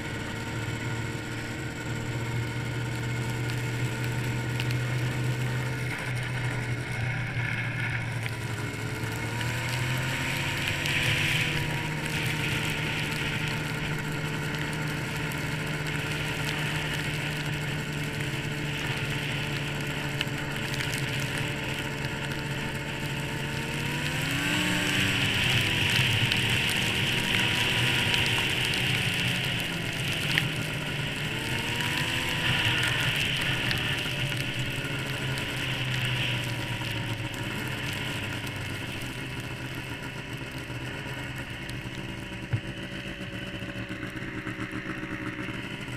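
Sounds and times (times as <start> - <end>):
snowmobile engine running: 0.0 - 45.9
hiss of wind and snow: 0.2 - 45.9.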